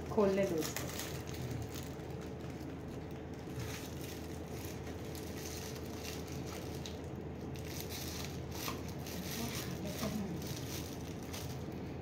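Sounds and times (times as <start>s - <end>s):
faint steady hum: 0.0s - 12.0s
foil wrapper crinkling: 0.0s - 12.0s.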